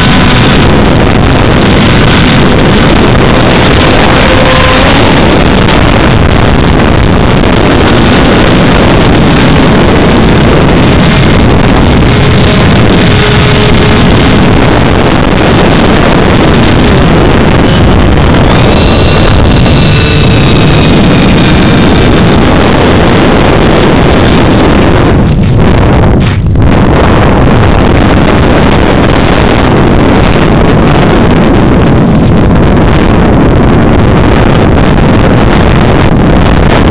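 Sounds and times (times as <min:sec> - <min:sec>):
electric motor and propeller whine: 0:00.0 - 0:36.9
heavy wind rush and buffeting: 0:00.0 - 0:36.9.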